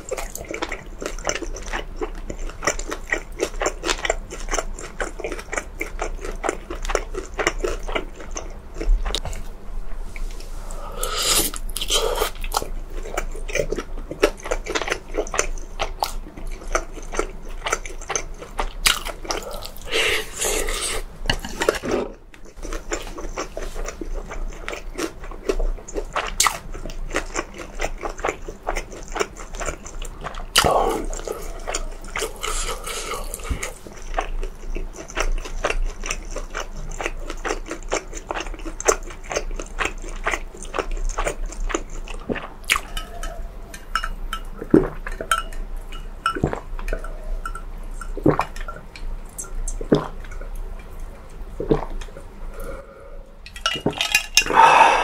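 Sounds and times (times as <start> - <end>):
crunchy chewing: 0.0 - 9.5, 10.2 - 55.0.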